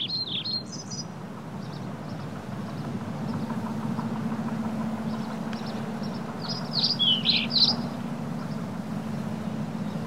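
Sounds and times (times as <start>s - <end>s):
songbird chirping: 0.0s - 10.0s
steady low hum: 0.0s - 10.0s.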